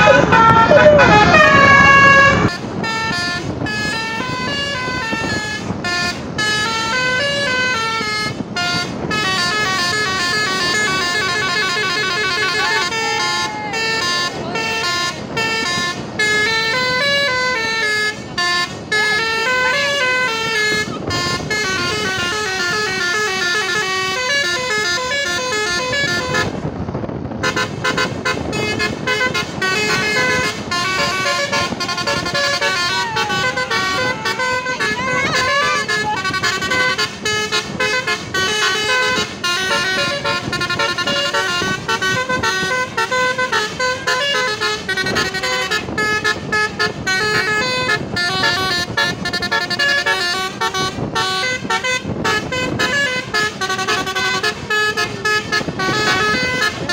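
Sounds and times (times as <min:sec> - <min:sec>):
musical air horn melody: 0:00.0 - 0:26.7, 0:27.3 - 0:56.9
bus passing: 0:00.0 - 0:56.9.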